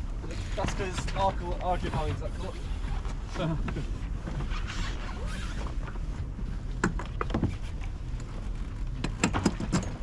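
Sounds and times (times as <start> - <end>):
waves slapping hull: 0.1 - 8.9.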